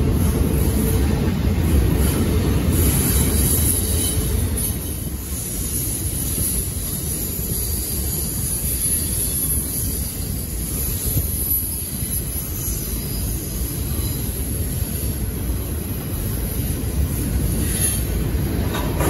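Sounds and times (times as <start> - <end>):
freight train wheels rumbling on rail: 0.0 - 19.0.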